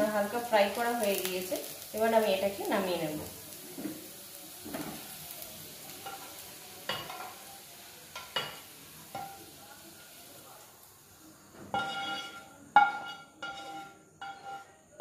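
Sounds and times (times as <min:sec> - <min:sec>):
vegetables sizzling in oil: 0:00.0 - 0:14.7.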